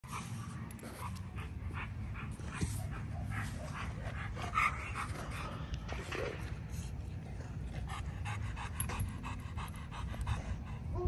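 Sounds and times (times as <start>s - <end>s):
dog panting: 0.0s - 5.8s, 7.2s - 11.0s
steady low hum: 0.0s - 11.0s.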